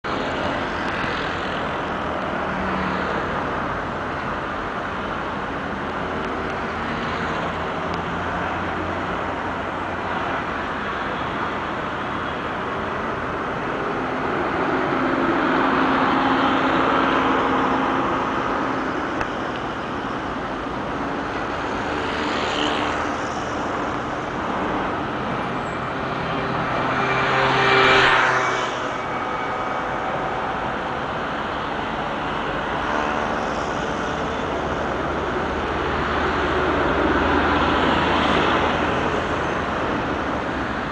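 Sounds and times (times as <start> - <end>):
city road traffic: 0.0 - 40.9.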